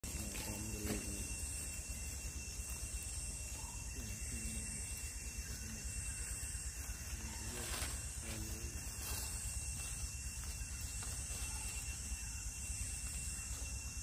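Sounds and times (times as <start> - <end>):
faint falling calls: 0.0 - 13.8
pulsing high hiss: 0.0 - 14.0.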